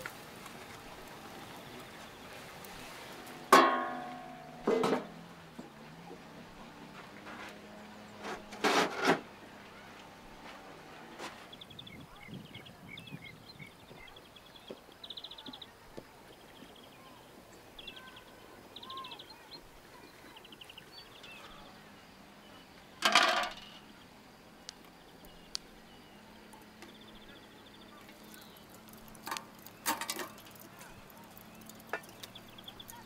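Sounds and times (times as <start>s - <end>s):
songbirds trilling and chirping: 0.0s - 8.6s, 9.2s - 33.0s.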